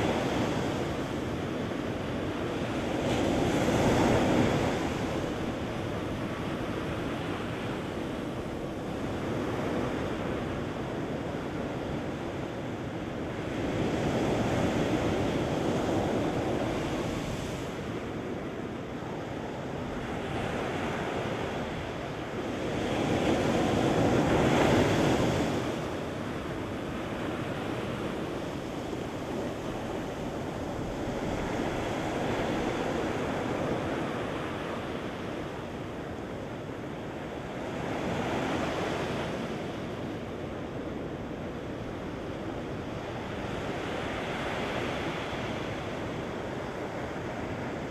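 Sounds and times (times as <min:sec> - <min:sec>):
ocean surf on sandy beach: 0:00.0 - 0:47.9.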